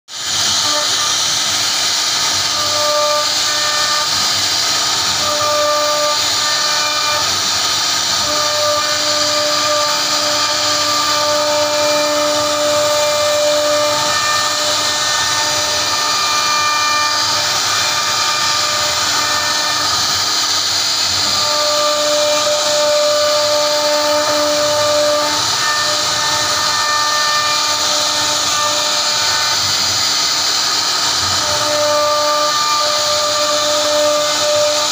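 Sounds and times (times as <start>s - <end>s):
router spindle hissing: 0.1s - 34.9s
whistling cutter tone: 0.1s - 34.9s.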